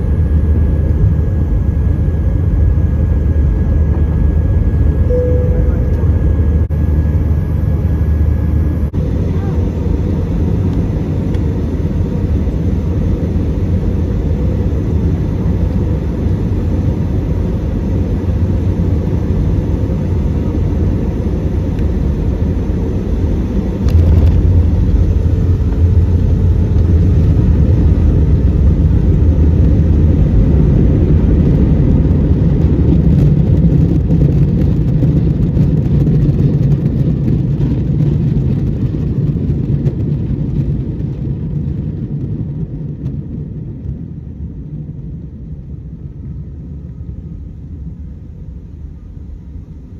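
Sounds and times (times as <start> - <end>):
jet engines and airflow rumble: 0.0 - 49.9.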